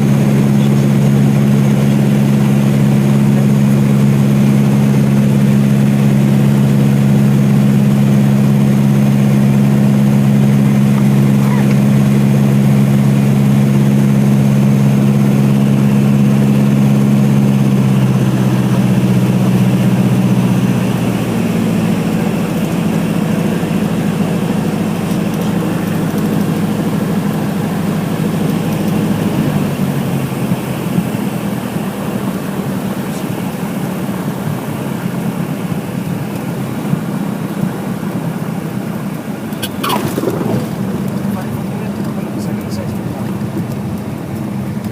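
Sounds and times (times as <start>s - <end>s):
propeller plane engine running: 0.0s - 44.9s.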